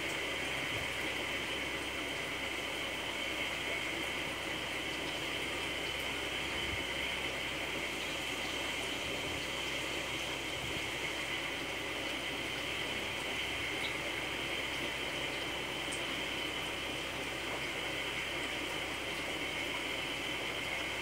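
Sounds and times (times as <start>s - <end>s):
aquarium water running: 0.0s - 21.0s.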